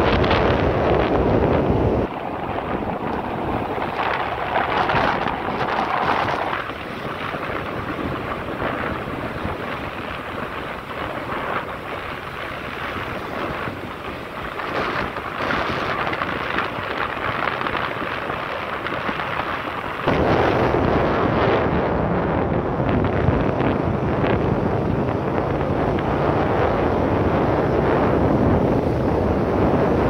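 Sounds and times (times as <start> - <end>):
motorcycle engine: 0.0 - 30.0
wind rushing over microphone: 0.0 - 30.0.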